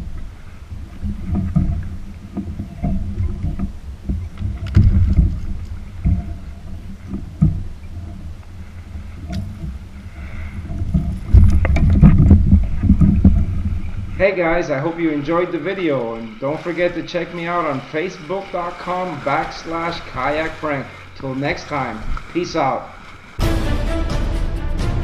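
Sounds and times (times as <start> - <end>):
knocks and bumps on kayak: 0.0 - 23.2
low uneven rumble: 0.0 - 23.6.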